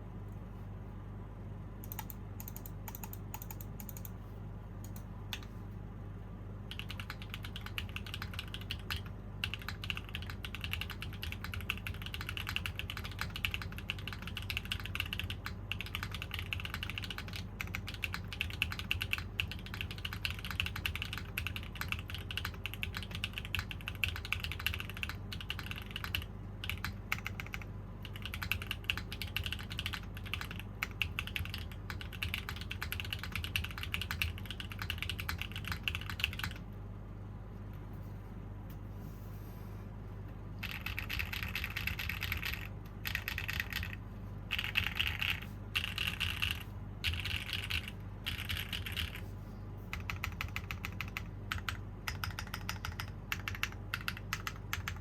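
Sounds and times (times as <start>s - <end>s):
mechanical keyboard typing: 1.8s - 4.2s, 6.7s - 36.6s, 40.6s - 49.3s, 49.9s - 55.0s.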